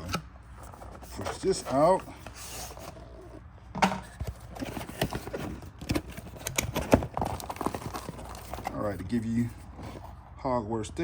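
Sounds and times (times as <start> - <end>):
cardboard box packaging handled: 0.4 - 3.4, 4.0 - 10.3.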